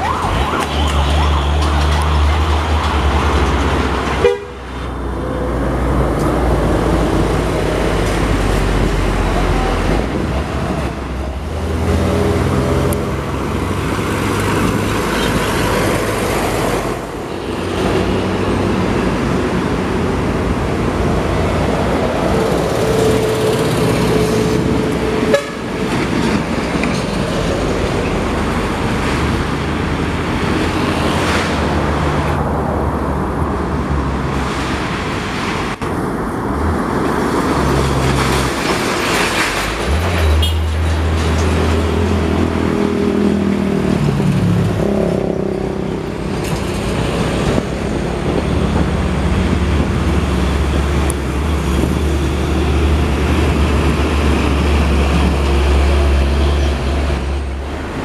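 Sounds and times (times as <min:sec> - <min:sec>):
cars passing: 0:00.0 - 0:58.0
heavy trucks passing: 0:00.0 - 0:58.0.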